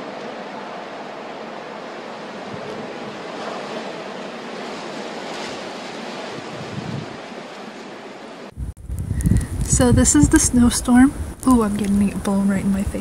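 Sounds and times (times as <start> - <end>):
blizzard wind rushing: 0.0 - 13.0
wind buffeting microphone: 0.0 - 13.0.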